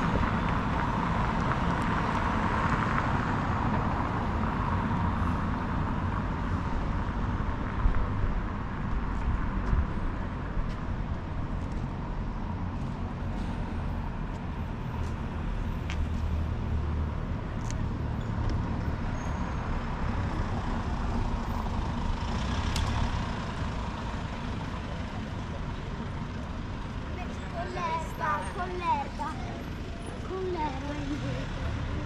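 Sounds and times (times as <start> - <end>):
low rumble of road traffic: 0.0 - 32.0.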